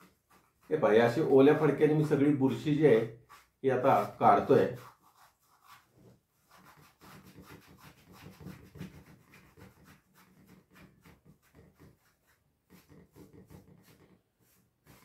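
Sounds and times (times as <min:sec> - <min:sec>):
wet cloth rubbing fabric: 0:00.0 - 0:15.0.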